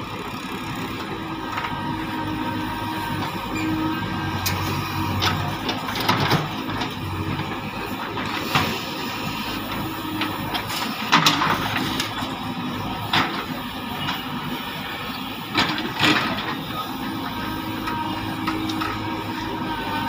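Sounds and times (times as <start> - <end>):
diesel engines running under load: 0.0 - 20.0.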